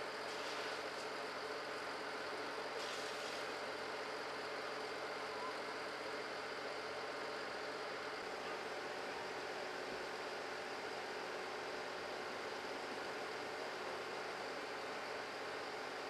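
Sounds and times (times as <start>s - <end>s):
fire engine pumps running: 0.0s - 16.0s.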